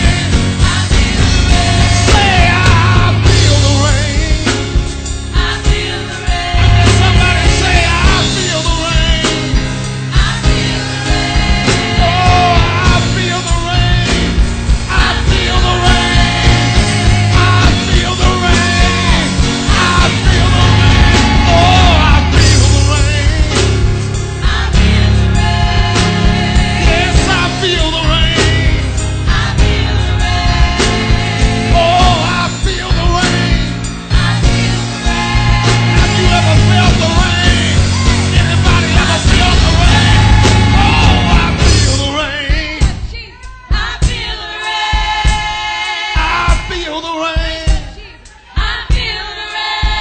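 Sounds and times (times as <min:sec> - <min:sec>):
bass line: 0:00.0 - 0:43.2
drum beat: 0:00.0 - 0:50.0
gospel singers: 0:00.0 - 0:50.0.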